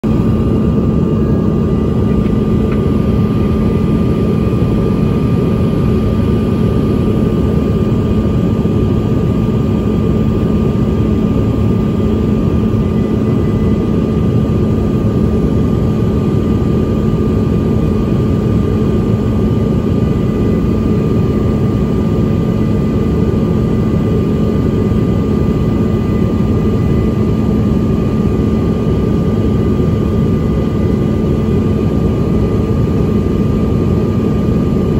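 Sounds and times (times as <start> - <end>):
faint high whine: 0.0 - 34.9
jet cabin air and engine noise: 0.0 - 34.9
low hum: 0.0 - 34.9.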